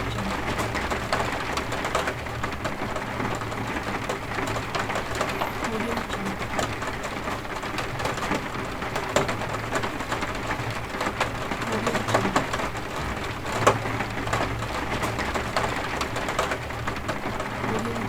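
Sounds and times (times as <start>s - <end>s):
heavy rain: 0.0s - 18.0s
raindrops splashing on hard surfaces: 0.0s - 18.0s.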